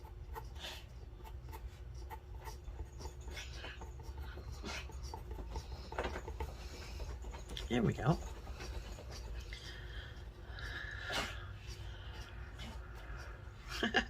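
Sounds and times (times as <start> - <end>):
drawing tool scratching paper: 0.0 - 13.6.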